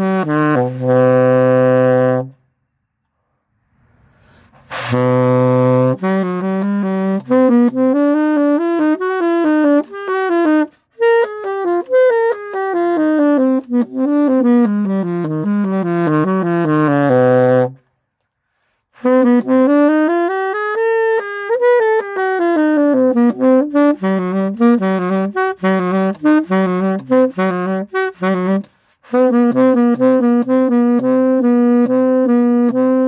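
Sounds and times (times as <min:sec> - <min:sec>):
saxophone playing: 0:00.0 - 0:02.6, 0:04.6 - 0:18.0, 0:18.8 - 0:33.0.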